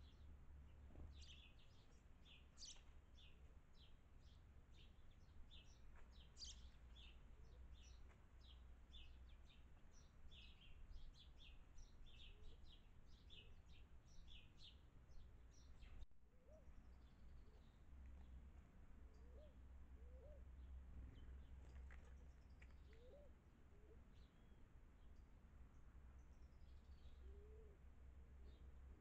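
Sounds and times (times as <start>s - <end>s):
small birds chirping: 0.0s - 18.4s, 19.1s - 27.7s.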